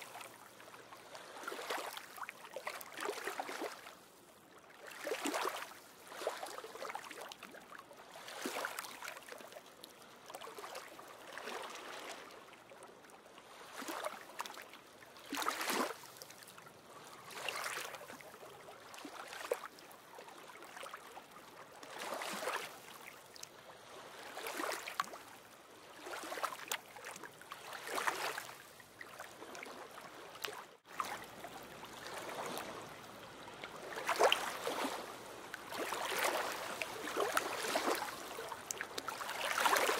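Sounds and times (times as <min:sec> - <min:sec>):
small waves washing onto stony shore: 0:00.0 - 0:04.2, 0:04.8 - 0:12.5, 0:13.5 - 0:39.9.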